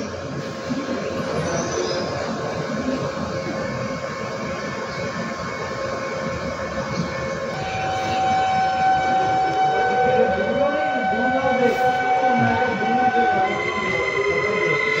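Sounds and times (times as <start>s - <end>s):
electric train rumbling: 0.0s - 15.0s
high whine: 0.0s - 15.0s.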